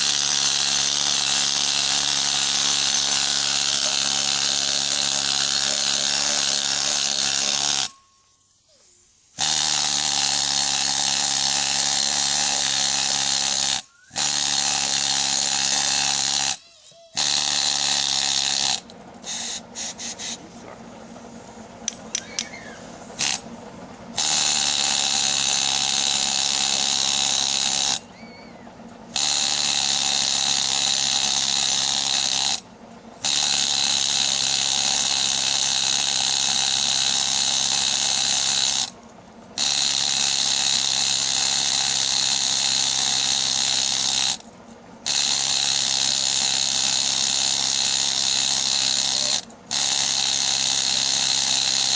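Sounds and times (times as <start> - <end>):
power tool whirring and rattling: 0.0 - 8.0, 9.3 - 51.9.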